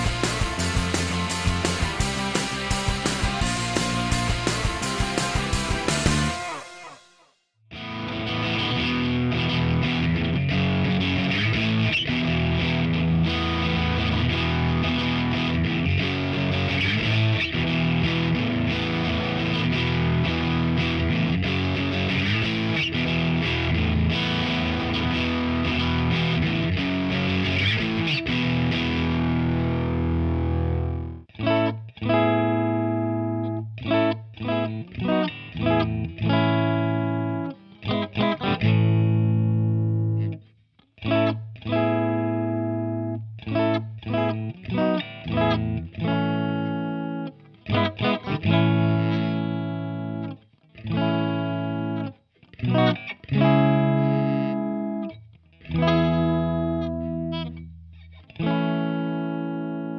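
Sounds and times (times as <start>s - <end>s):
distorted electric guitar: 0.0s - 40.4s, 41.0s - 59.9s.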